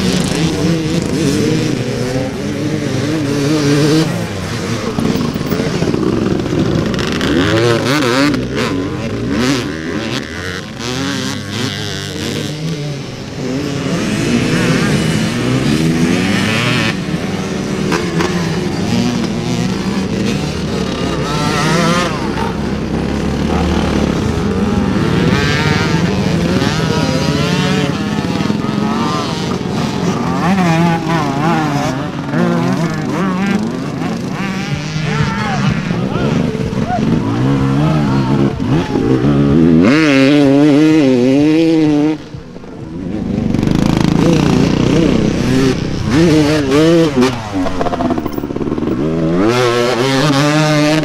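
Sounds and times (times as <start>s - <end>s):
motocross bikes revving: 0.0s - 51.0s.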